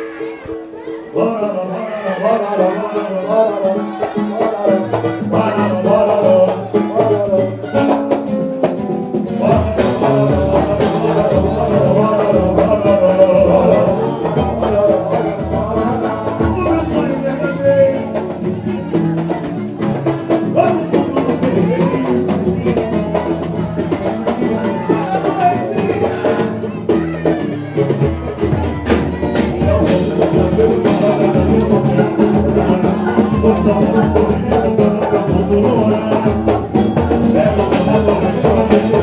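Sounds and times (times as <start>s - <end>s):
drums and percussion: 0.0s - 39.0s
people singing: 0.0s - 39.0s.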